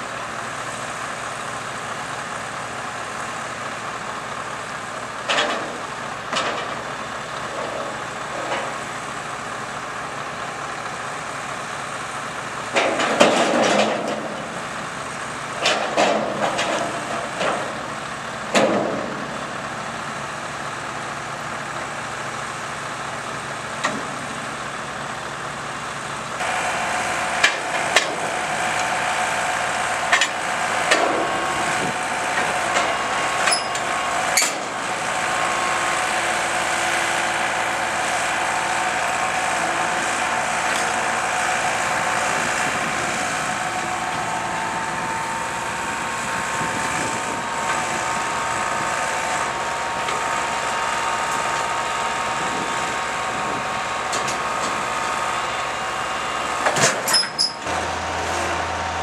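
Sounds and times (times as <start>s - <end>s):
crane whine: 0.0s - 59.0s
hydraulic crane running: 0.0s - 59.0s.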